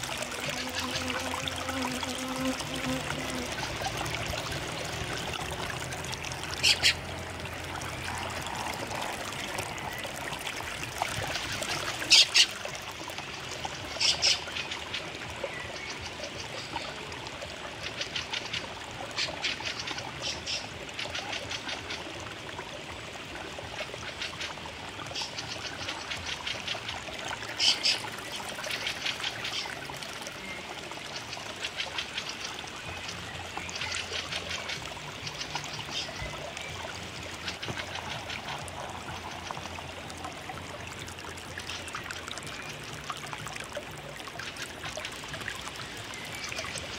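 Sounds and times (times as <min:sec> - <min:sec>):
trickling running water: 0:00.0 - 0:46.9.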